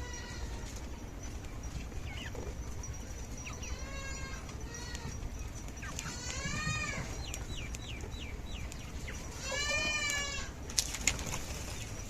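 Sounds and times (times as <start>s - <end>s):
farm animal calls: 0.0s - 12.0s.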